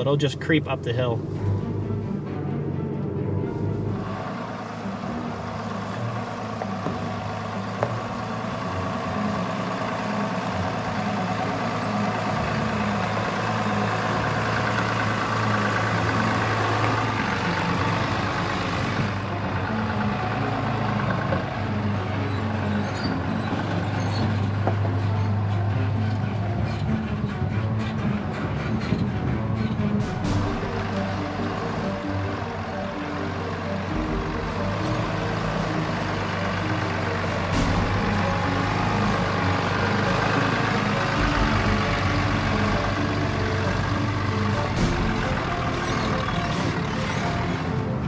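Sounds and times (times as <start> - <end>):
truck engine running at low revs: 0.0 - 48.0.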